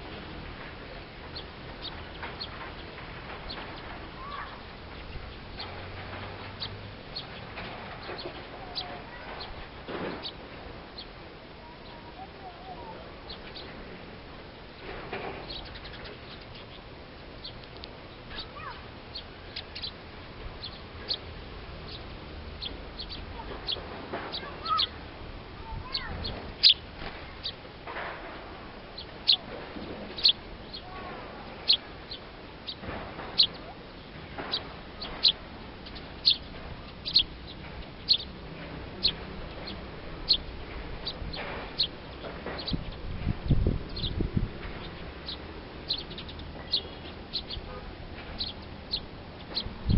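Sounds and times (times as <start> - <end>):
bird chip calls: 0.9 - 5.8, 6.4 - 13.8, 15.4 - 25.0, 25.6 - 27.6, 28.9 - 49.8.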